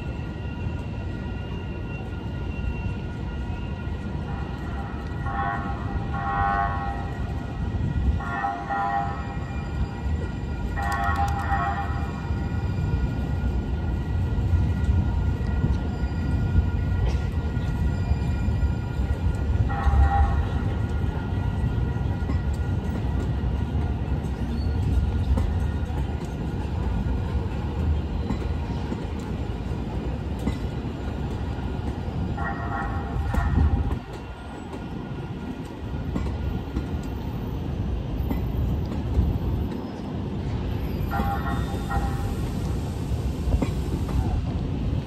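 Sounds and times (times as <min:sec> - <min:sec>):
trolleys rumbling past: 0:00.0 - 0:45.0.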